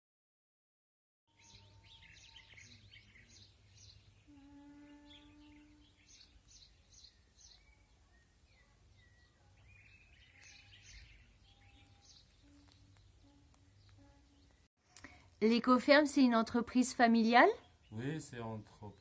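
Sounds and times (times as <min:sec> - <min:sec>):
small birds chirping: 0:01.3 - 0:15.3, 0:16.2 - 0:19.0.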